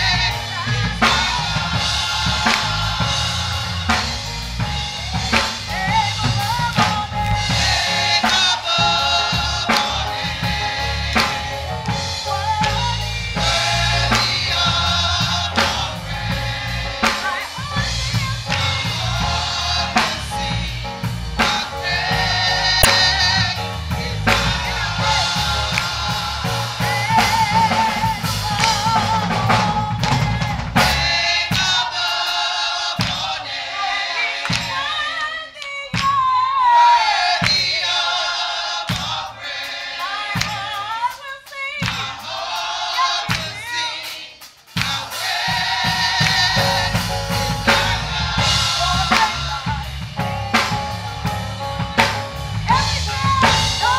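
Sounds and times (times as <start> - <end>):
drum hits: 0.0 - 33.7, 38.8 - 53.9
choir singing gospel: 0.0 - 53.9
live band: 0.0 - 53.9.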